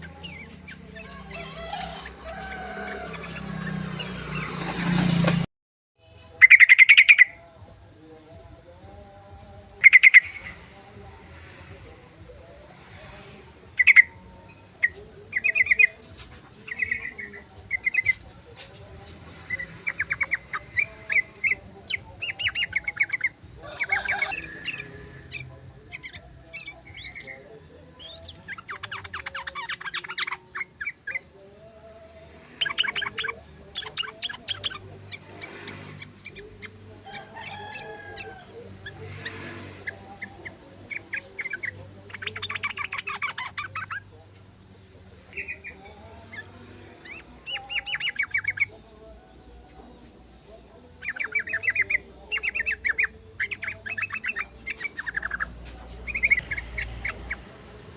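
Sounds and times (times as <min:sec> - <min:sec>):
bulbuls singing: 0:00.0 - 0:57.9.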